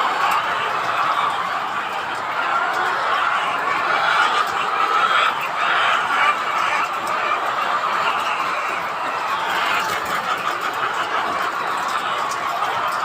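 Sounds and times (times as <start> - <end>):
chickens calling: 0.0 - 13.0.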